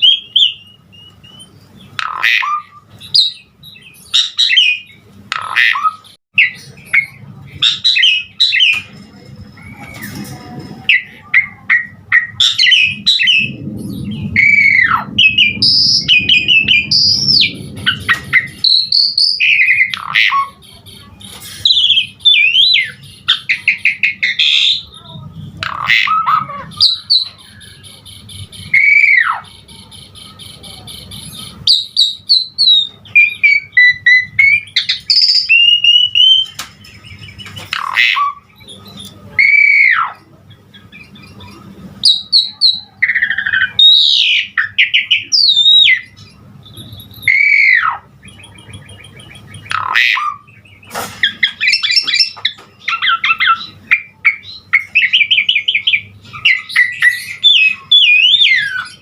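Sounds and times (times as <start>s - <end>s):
starling singing varied song: 0.0s - 59.0s.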